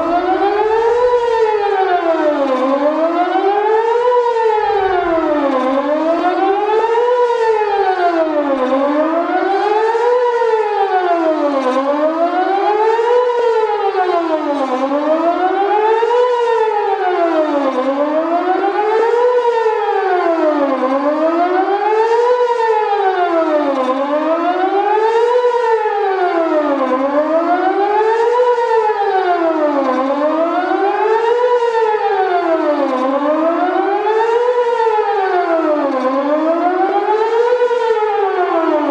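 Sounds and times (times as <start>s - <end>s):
rising and falling warning siren: 0.0s - 38.9s.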